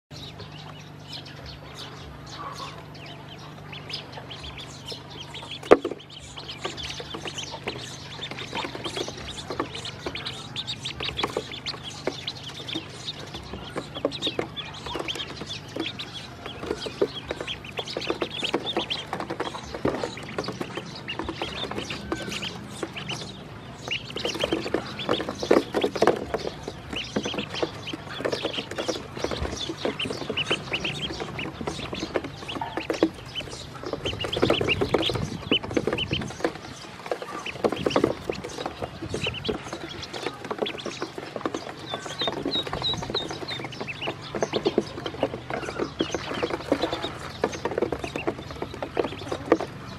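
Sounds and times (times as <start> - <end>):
ducklings peeping: 0.1 - 49.9
pecking clicks and scuffling on plastic: 5.6 - 49.9.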